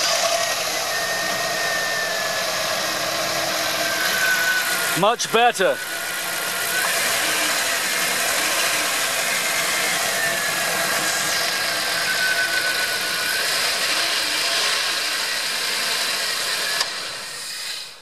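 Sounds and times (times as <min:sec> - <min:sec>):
car engine idling: 0:00.0 - 0:17.2
faint high whine: 0:00.0 - 0:18.0.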